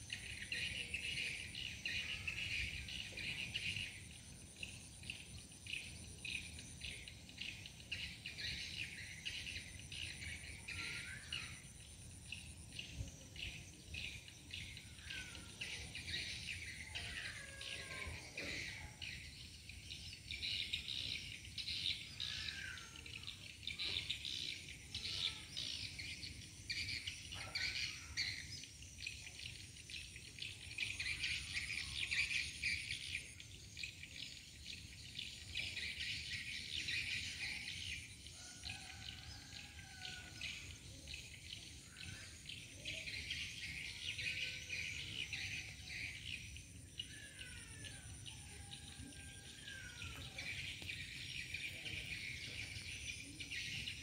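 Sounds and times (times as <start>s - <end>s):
birds chirping and twittering: 0.0s - 54.0s
high insect drone: 0.0s - 54.0s.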